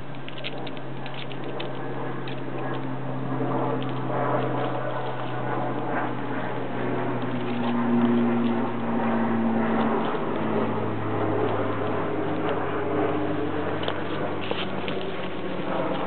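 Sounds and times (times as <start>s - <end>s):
motor drone: 0.0s - 16.0s.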